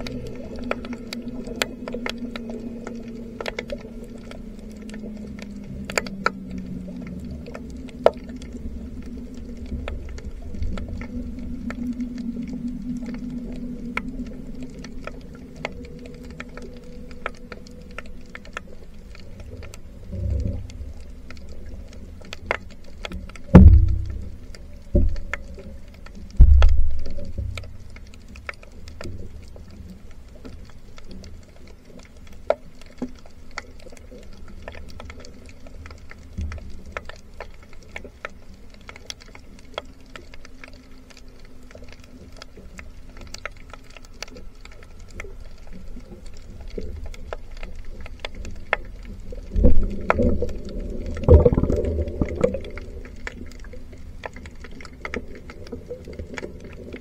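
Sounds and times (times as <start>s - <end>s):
low underwater hum: 0.0s - 57.0s
underwater sharp clicks: 0.0s - 57.0s.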